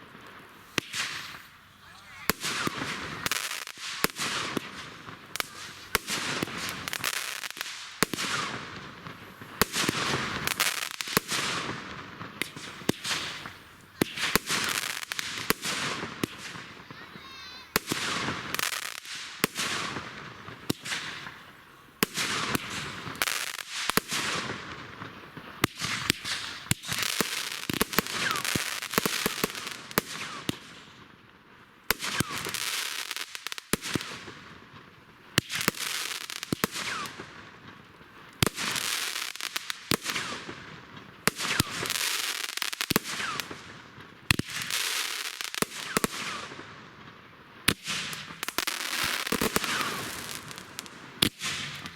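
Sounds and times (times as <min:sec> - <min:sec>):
fireworks bangs: 0:00.0 - 0:31.0, 0:31.9 - 0:51.9
fireworks crackling hiss: 0:00.0 - 0:51.9.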